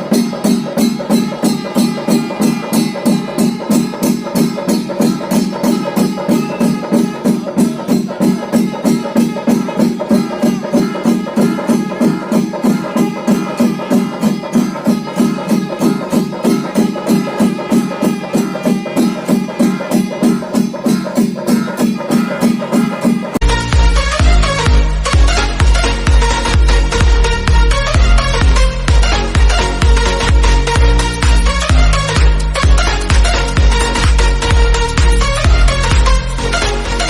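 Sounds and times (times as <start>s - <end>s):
cymbals clashing: 0.0s - 37.0s
drums beaten in steady beat: 0.0s - 37.0s.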